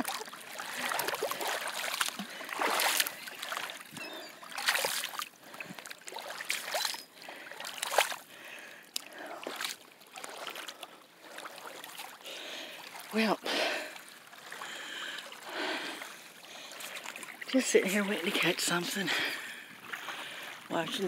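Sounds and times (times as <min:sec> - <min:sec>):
water lapping at shoreline: 0:00.0 - 0:21.0.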